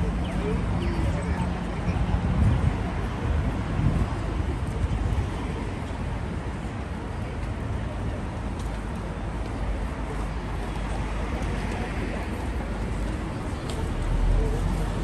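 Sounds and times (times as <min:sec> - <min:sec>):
people chattering: 0:00.0 - 0:15.0
traffic rumble: 0:00.0 - 0:15.0.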